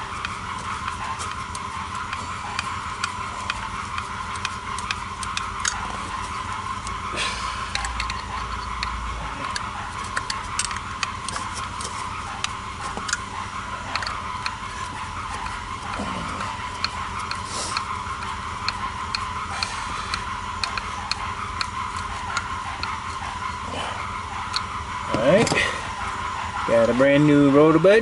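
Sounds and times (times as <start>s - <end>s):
hand tools clicking: 0.0s - 23.5s
steady background hum: 0.0s - 28.0s.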